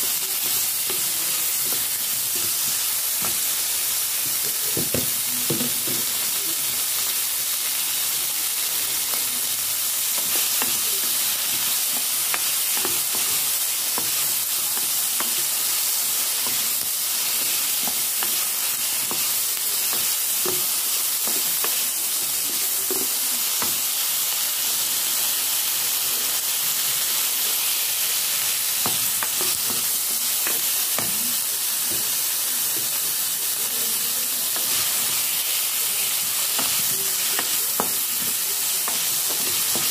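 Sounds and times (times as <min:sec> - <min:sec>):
food sizzling in a pot: 0:00.0 - 0:39.9.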